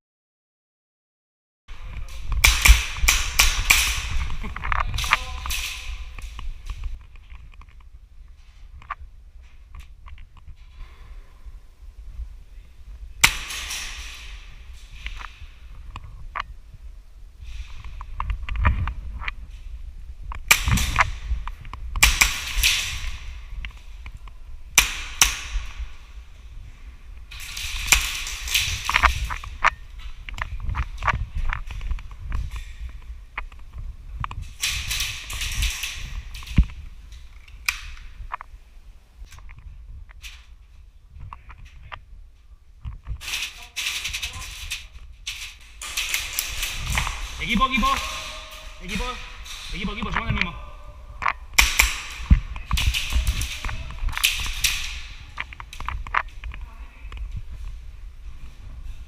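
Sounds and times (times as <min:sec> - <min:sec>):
low rumble: 0:01.7 - 0:59.0.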